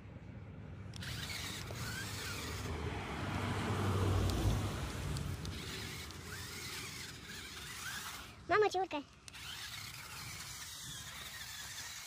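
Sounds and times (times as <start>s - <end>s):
small electric motors whirring: 0.9s - 12.0s
tyres churning dirt: 0.9s - 12.0s.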